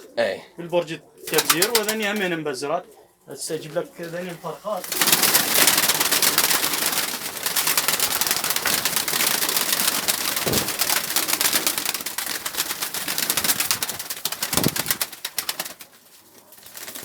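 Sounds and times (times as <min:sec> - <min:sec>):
pigeon cooing: 0:00.0 - 0:15.4
pigeon wings flapping: 0:01.2 - 0:02.3, 0:04.0 - 0:17.0.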